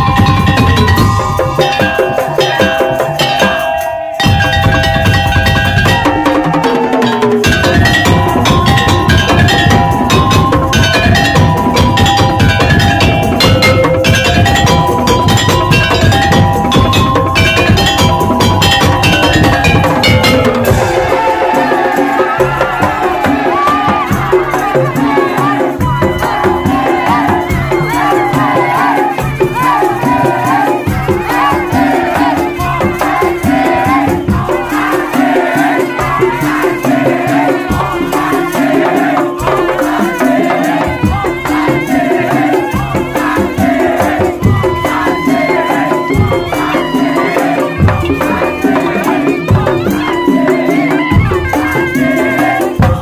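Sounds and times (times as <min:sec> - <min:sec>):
drum strokes: 0:00.0 - 0:53.0
loud dense percussion: 0:00.0 - 0:53.0
wavering melody line: 0:00.0 - 0:53.0.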